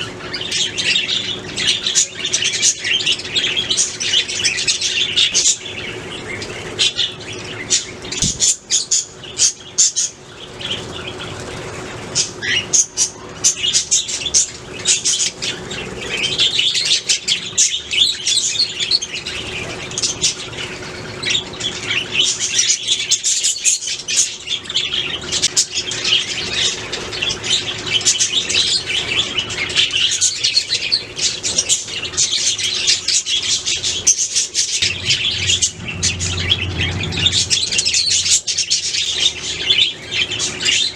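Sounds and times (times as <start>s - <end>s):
bird squawks: 0.0s - 40.9s
budgies chirping and warbling: 0.0s - 40.9s.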